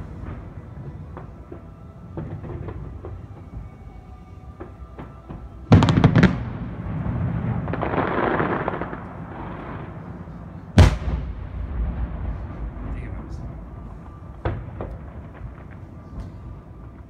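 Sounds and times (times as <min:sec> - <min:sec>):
fireworks bangs: 0:00.0 - 0:17.0
rolling noisy rush: 0:00.0 - 0:17.0.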